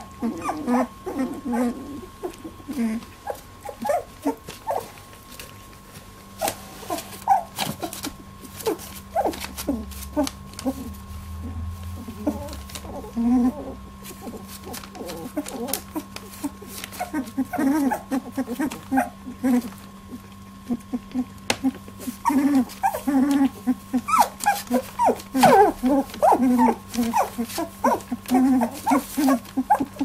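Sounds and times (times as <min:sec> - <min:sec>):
faint steady hum: 0:00.0 - 0:30.0
puppies whimpering and squeaking: 0:00.0 - 0:30.0.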